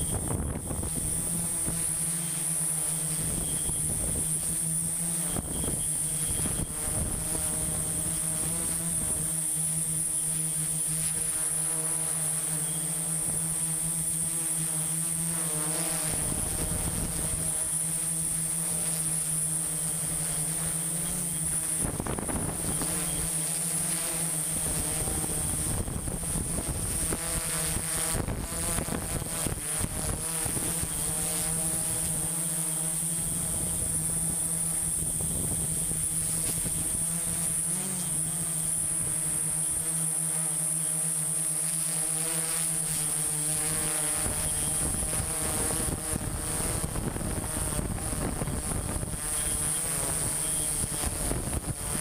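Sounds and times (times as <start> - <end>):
drone motors buzzing and whining: 0.0 - 52.0.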